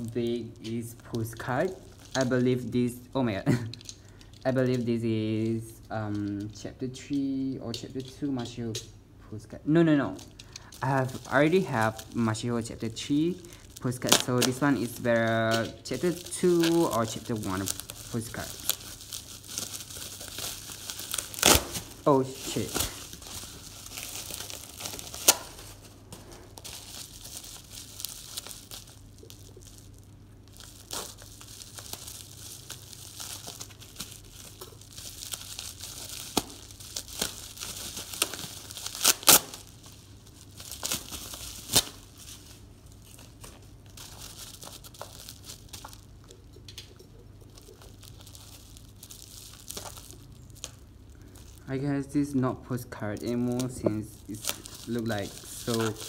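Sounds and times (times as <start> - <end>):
packaging crinkling and tearing: 0.0 - 8.5, 9.8 - 56.0.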